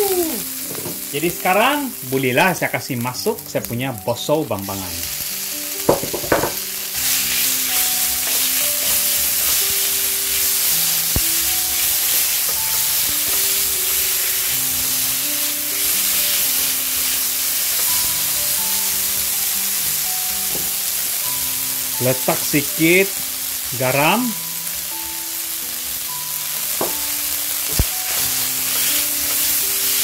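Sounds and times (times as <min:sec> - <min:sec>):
food sizzling in oil: 0:00.0 - 0:30.0
soft background music: 0:00.0 - 0:30.0.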